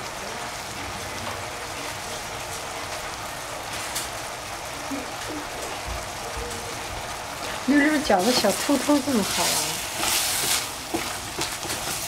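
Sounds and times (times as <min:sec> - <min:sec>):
food hissing in saucepan: 0:00.0 - 0:12.0.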